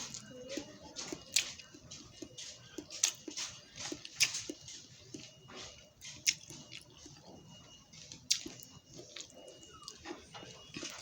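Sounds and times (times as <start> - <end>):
person chewing with mouth smacks: 0.0 - 11.0.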